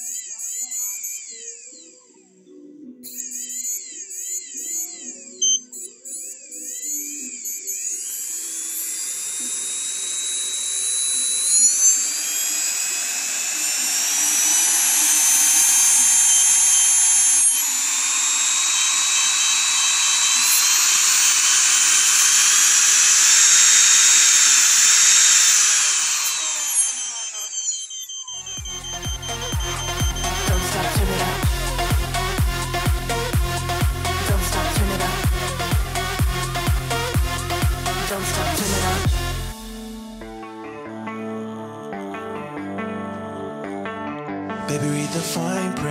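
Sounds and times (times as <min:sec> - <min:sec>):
electric motor whining: 0:03.1 - 0:40.7.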